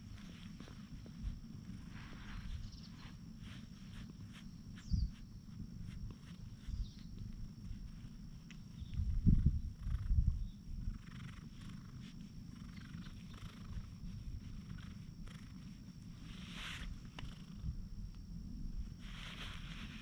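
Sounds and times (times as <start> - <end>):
hand rubbing fur: 0.0 - 9.0, 11.0 - 17.6, 18.8 - 20.0
cat purring: 0.0 - 17.9, 18.8 - 20.0.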